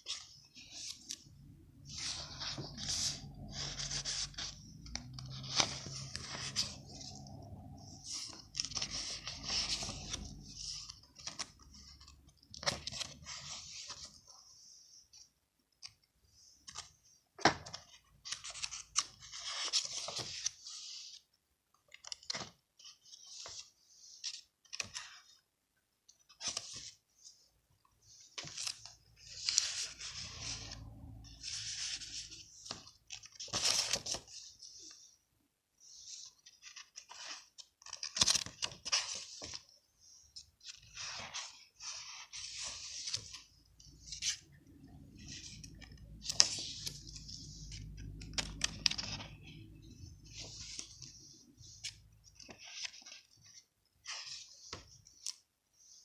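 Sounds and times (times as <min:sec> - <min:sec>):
paper rustling and crinkling: 0:00.0 - 0:16.0, 0:16.6 - 0:25.4, 0:26.1 - 0:35.2, 0:35.8 - 0:56.0.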